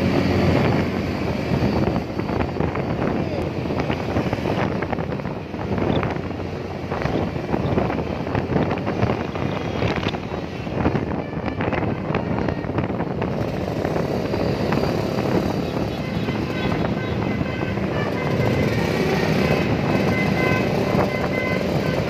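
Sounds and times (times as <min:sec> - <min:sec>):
road traffic rumbling past: 0:00.0 - 0:22.0
wind buffeting microphone: 0:00.0 - 0:22.0.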